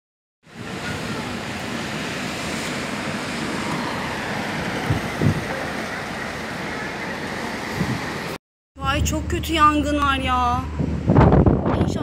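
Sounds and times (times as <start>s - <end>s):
wind rushing over microphone: 0.5s - 12.0s.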